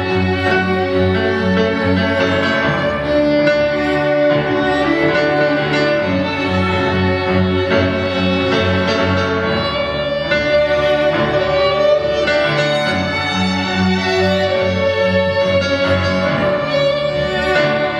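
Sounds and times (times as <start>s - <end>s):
grand piano playing: 0.0s - 17.9s.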